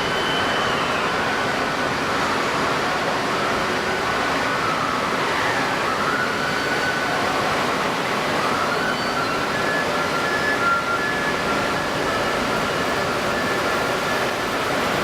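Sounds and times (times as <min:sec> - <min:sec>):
moving water: 0:00.0 - 0:15.0.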